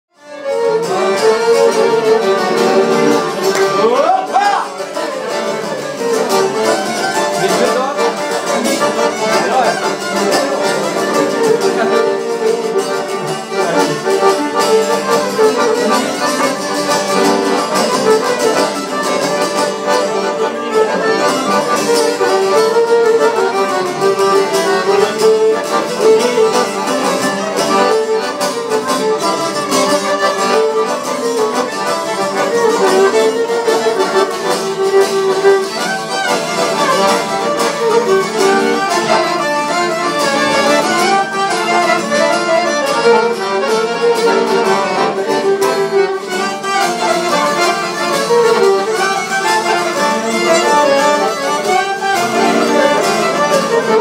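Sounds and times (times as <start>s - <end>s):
strummed lutes: 0.1s - 54.0s
violin melody: 0.1s - 54.0s.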